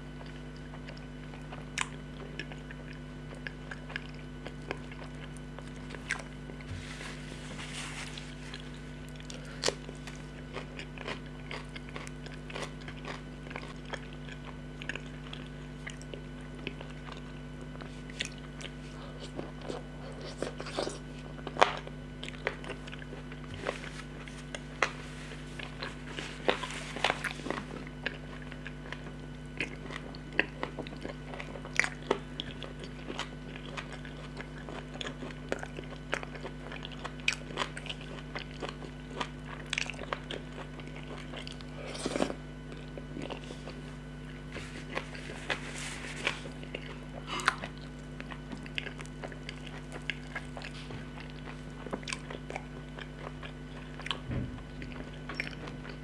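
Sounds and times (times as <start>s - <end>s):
steady low hum: 0.0s - 56.0s
wet chewing and lip smacks: 8.4s - 25.0s, 25.6s - 56.0s.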